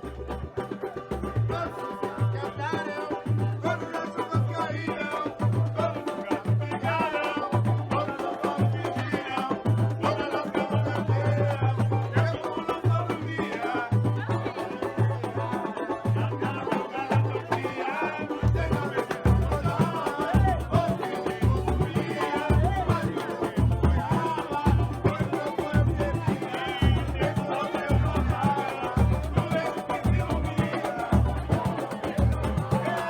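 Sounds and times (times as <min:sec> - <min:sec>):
hand percussion beat: 0:00.0 - 0:33.0
samba band playing: 0:00.0 - 0:33.0.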